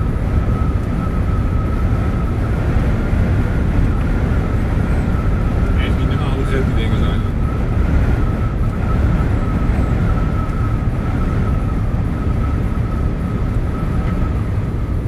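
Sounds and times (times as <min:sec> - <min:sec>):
engine and road rumble: 0:00.0 - 0:15.0
faint high whine: 0:00.0 - 0:15.0.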